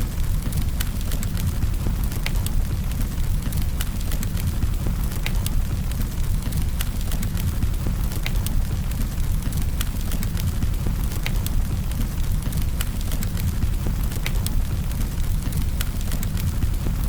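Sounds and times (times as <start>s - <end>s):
rumble of flames: 0.0s - 17.0s
burning wood crackling: 0.1s - 17.0s.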